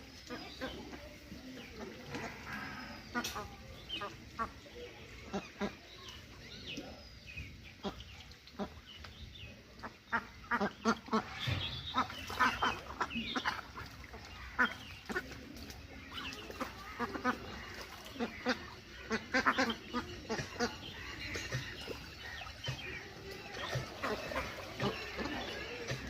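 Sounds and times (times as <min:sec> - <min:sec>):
ducklings peeping: 0:00.1 - 0:26.0.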